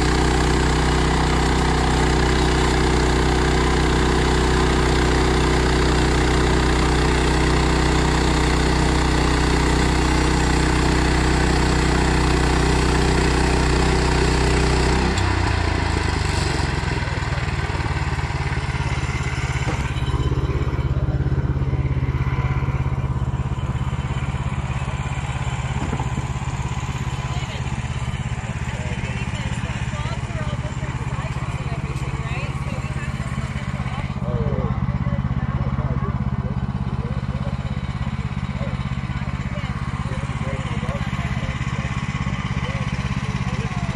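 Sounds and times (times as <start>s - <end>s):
sawmill engine running: 0.0s - 43.9s.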